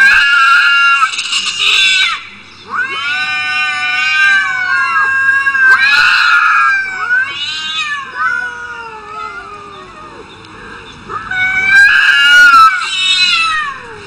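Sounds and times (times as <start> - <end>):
cats yowling: 0.0 - 14.0.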